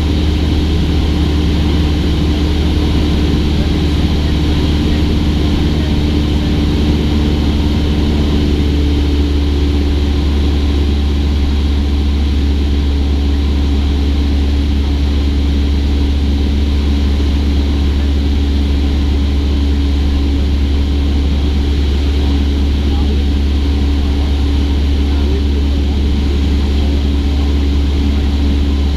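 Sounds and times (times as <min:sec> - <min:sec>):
propeller plane engine droning: 0:00.0 - 0:28.9.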